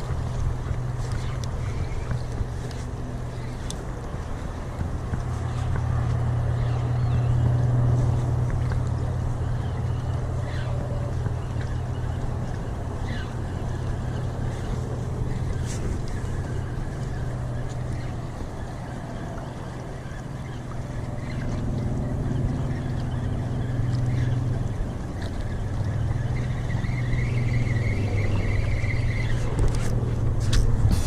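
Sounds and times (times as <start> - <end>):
boat engine hum: 0.0 - 31.0.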